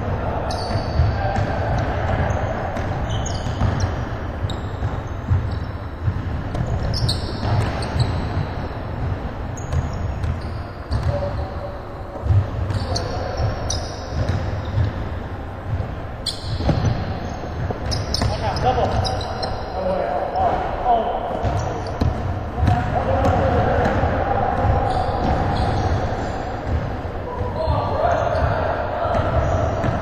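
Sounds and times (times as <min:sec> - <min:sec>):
sneaker squeaks: 0:00.3 - 0:20.1, 0:21.3 - 0:23.9, 0:24.5 - 0:30.0
basketball bouncing: 0:00.5 - 0:11.4, 0:12.1 - 0:19.6, 0:21.3 - 0:26.0, 0:26.6 - 0:27.6, 0:29.1 - 0:30.0.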